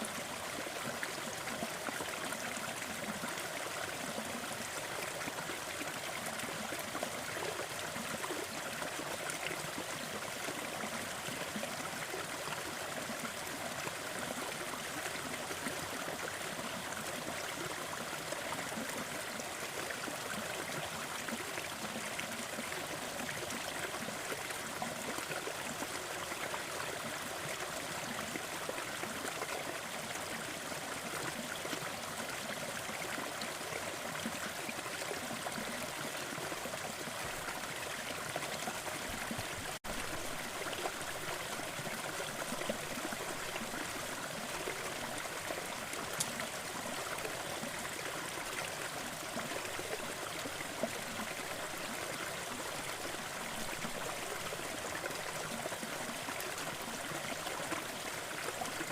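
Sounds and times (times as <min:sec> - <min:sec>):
small waterfall splashing: 0:00.0 - 0:58.9.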